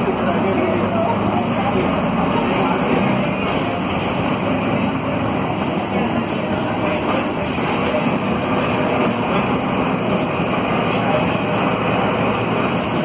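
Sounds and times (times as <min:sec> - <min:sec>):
bus diesel engine humming: 0:00.0 - 0:13.0.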